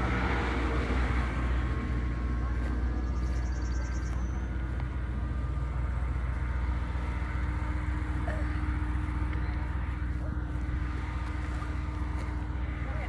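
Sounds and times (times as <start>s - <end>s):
electric vehicle low rumble: 0.0s - 13.0s.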